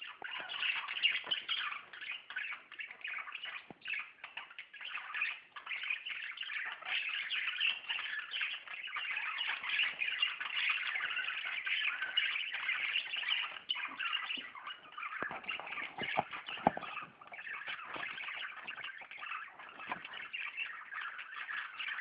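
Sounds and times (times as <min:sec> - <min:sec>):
budgies chattering and warbling: 0:00.0 - 0:22.0.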